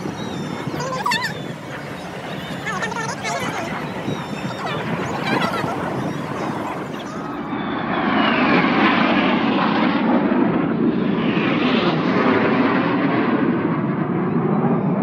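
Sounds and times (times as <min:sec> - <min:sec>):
jet aircraft passing overhead: 0:00.0 - 0:15.0.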